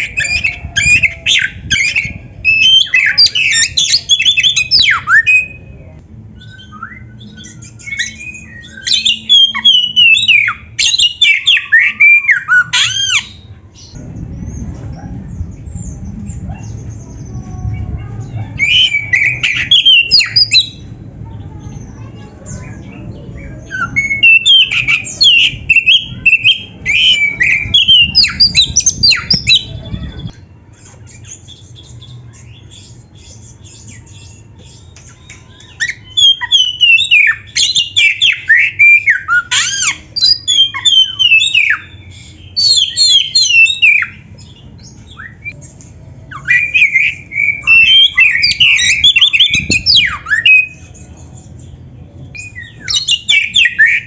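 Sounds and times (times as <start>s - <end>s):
songbird singing whistles and trills: 0.0s - 54.0s.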